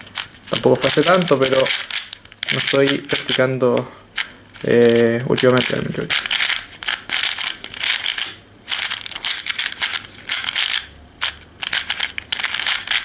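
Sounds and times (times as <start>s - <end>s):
puzzle cube clicking: 0.1s - 13.0s.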